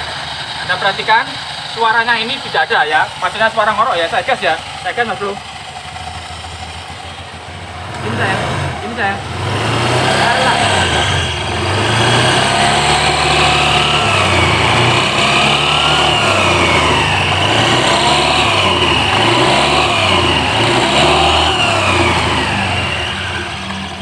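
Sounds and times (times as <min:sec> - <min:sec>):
scooter engine revving: 0:00.0 - 0:24.0.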